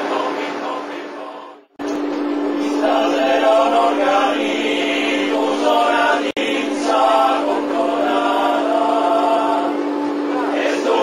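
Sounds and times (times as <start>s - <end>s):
male choir singing a cappella: 0.0s - 1.7s, 2.6s - 11.0s
steady low hum: 0.0s - 11.0s.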